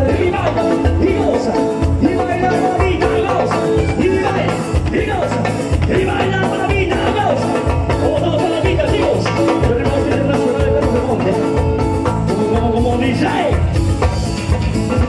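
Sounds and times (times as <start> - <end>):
man singing: 0.0 - 13.8
live latin band playing: 0.0 - 15.0.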